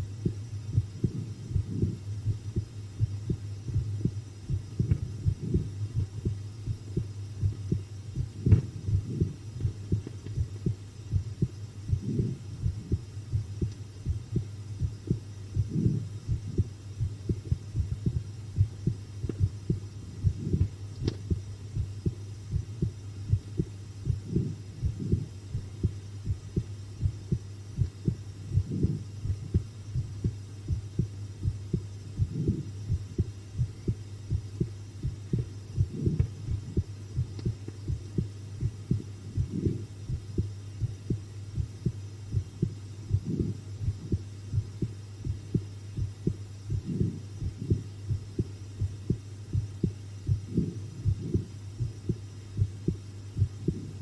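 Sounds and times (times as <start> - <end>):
heartbeat thumps: 0.0 - 54.0
low hum: 0.0 - 54.0.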